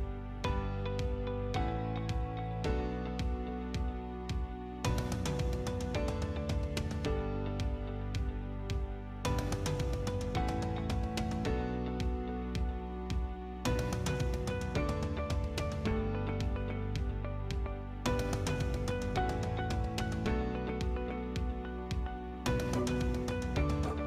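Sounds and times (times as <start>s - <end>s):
gentle guitar music with beat: 0.0s - 24.0s.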